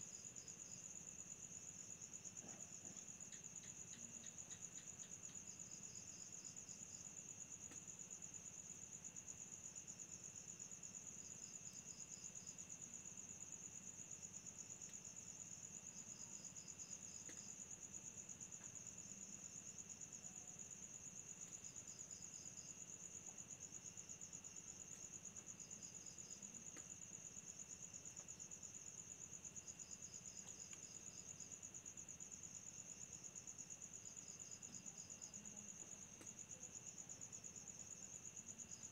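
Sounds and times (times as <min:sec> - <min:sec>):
low insect drone: 0:00.0 - 0:38.9
crickets trilling: 0:00.1 - 0:38.9.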